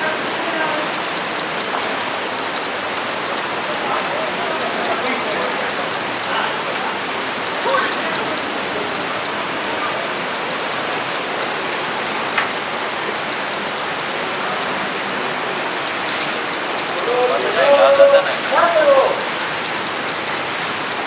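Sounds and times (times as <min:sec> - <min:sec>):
waterfall pouring into pool: 0:00.0 - 0:21.0.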